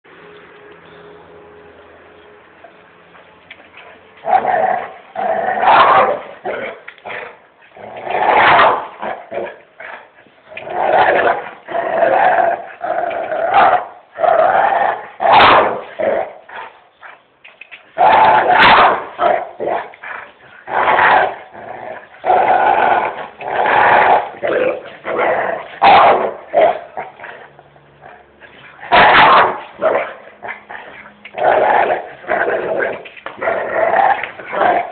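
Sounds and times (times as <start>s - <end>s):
dog growling and barking: 4.2s - 16.8s, 18.0s - 34.9s.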